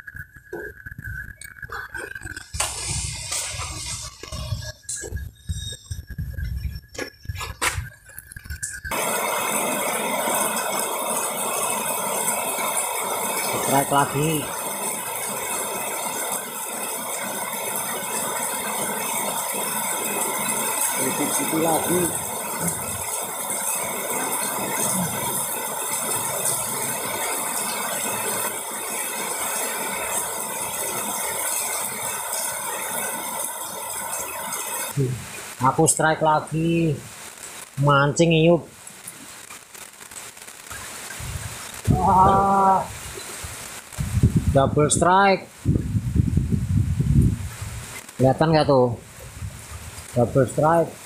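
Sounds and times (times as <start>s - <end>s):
steady hiss: 1.7s - 51.0s.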